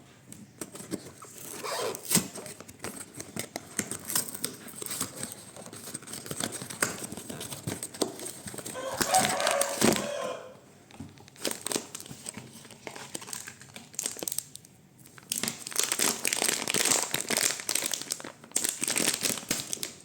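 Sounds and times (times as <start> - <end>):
wrapper crinkling and rustling: 0.9 - 10.2, 11.1 - 20.0
packaging tearing: 1.2 - 10.2, 11.3 - 14.6, 15.2 - 20.0.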